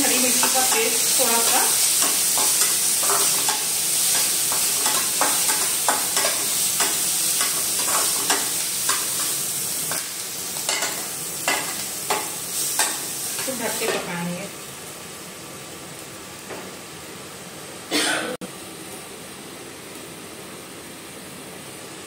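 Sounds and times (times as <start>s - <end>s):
vegetables sizzling in hot oil: 0.0s - 17.9s.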